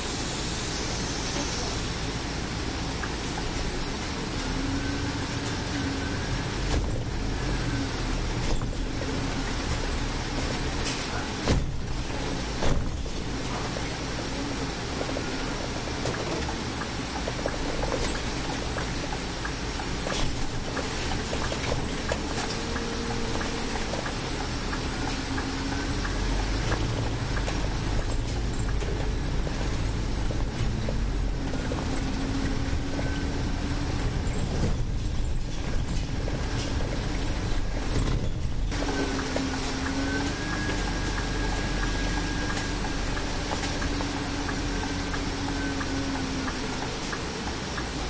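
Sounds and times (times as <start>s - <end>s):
bus engine and road noise: 0.0s - 48.0s.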